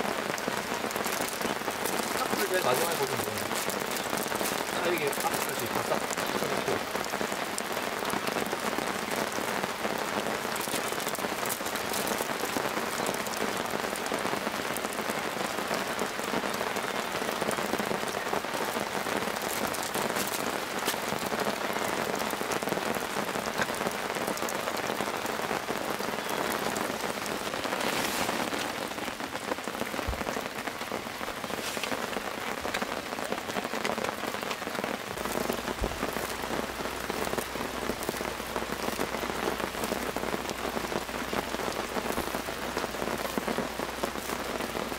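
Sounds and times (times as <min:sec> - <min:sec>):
rain pattering: 0:00.0 - 0:44.9.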